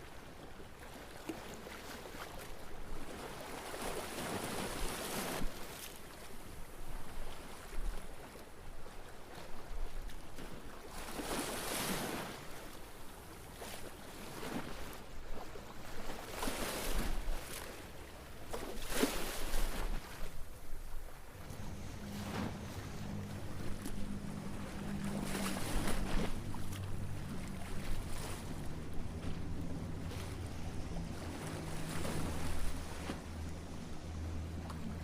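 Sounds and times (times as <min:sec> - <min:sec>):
waves lapping against canal edge: 0:00.0 - 0:35.0.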